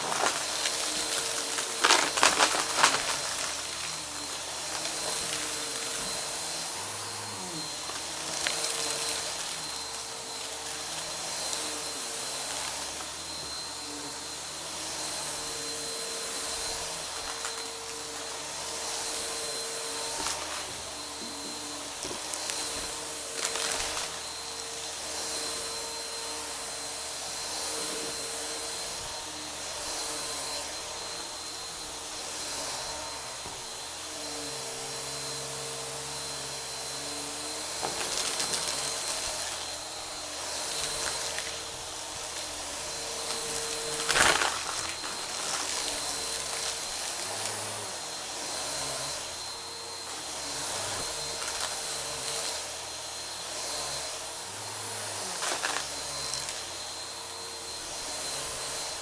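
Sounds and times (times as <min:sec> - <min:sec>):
vacuum cleaner running: 0:00.0 - 0:59.0
vacuum sucking up dry debris: 0:00.0 - 0:59.0.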